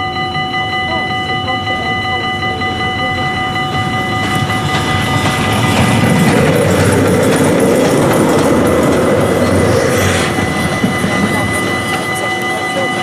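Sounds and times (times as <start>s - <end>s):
level crossing bell ringing: 0.0s - 13.0s
steam locomotive rumble: 0.6s - 13.0s
train wheels on rails: 0.9s - 13.0s.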